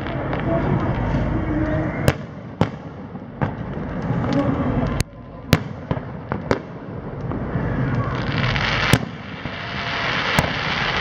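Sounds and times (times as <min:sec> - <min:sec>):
continuous rumble: 0:00.0 - 0:11.0
fireworks bursting: 0:00.0 - 0:11.0.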